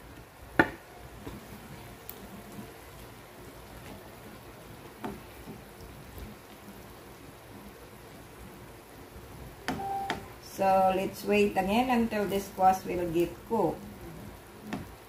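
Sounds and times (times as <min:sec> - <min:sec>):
food sizzling in wok: 0:01.4 - 0:15.0.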